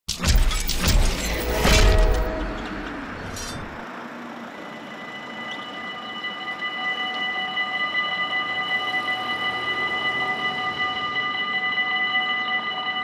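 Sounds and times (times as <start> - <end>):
level crossing warning bell: 0.6 - 13.0.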